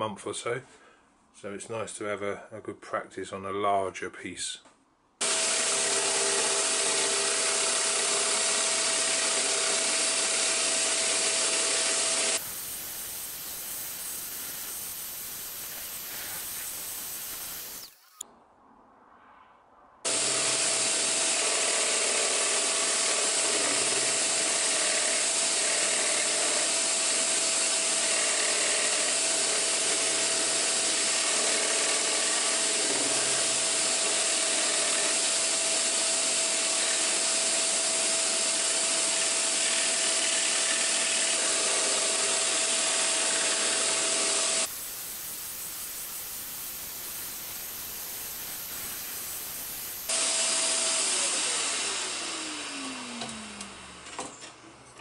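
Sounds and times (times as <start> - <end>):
scroll saw cutting wood: 5.2 - 18.2, 20.1 - 54.1.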